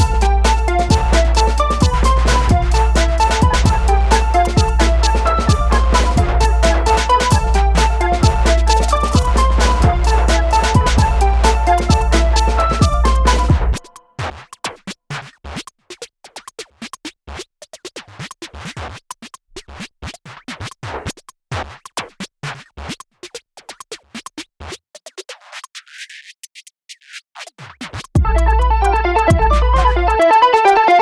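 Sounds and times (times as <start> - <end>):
electronic music with clicking percussion: 0.0 - 19.0, 19.6 - 31.0.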